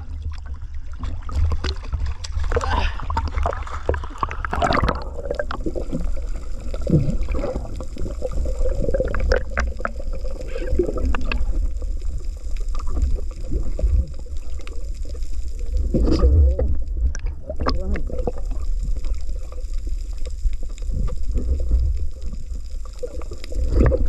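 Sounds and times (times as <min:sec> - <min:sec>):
underwater water rumble: 0:00.0 - 0:24.0.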